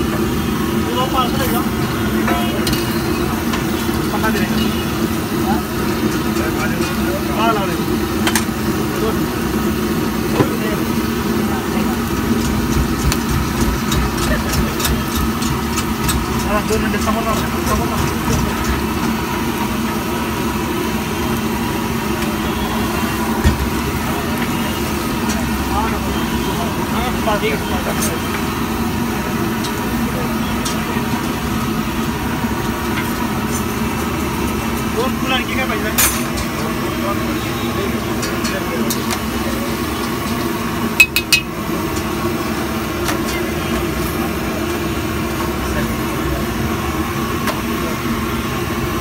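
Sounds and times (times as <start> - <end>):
gas burner roaring: 0.0 - 49.0
oil and egg sizzling in wok: 0.0 - 49.0.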